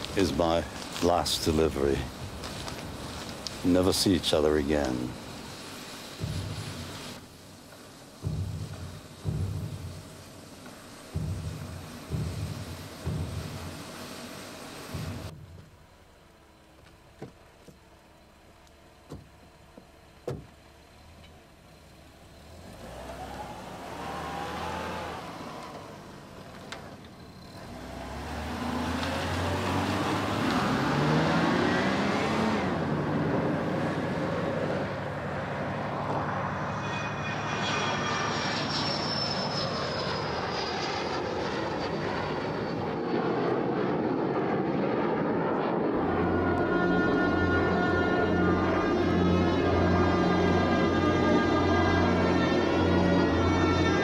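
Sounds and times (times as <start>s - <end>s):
vehicle engine running: 0.0s - 44.5s, 45.9s - 54.0s.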